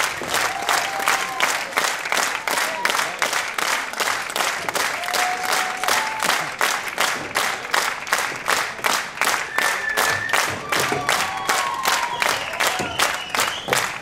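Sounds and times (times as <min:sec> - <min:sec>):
audience clapping in unison: 0:00.0 - 0:14.0.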